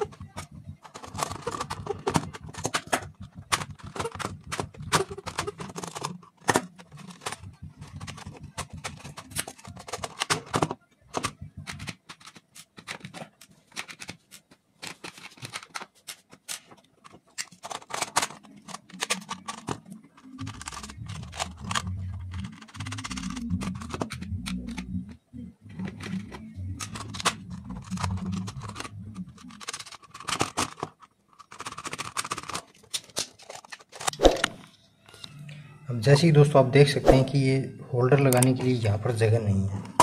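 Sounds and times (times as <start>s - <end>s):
plastic switch modules clicking: 0.0s - 34.6s.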